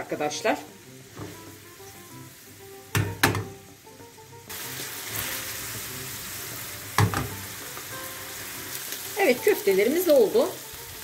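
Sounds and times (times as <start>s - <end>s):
meatballs sizzling in a frying pan: 0.0s - 11.0s.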